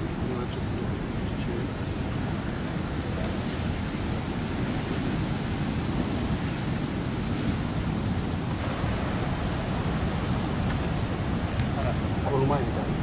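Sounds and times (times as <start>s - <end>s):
surf washing: 0.0s - 13.0s
wind rumbling on microphone: 0.0s - 13.0s.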